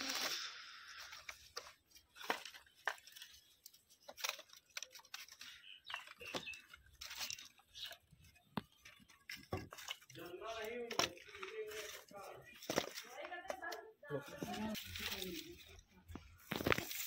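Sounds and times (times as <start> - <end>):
dry crackles: 0.0 - 17.0.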